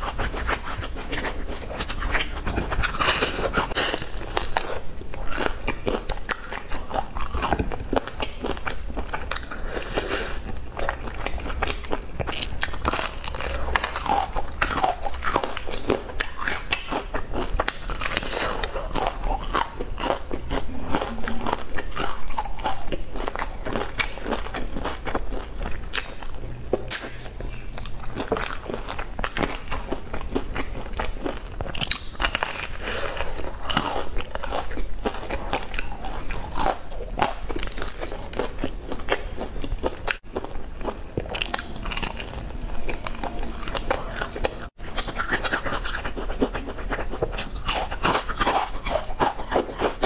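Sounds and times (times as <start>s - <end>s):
crunchy chewing: 0.0s - 50.0s.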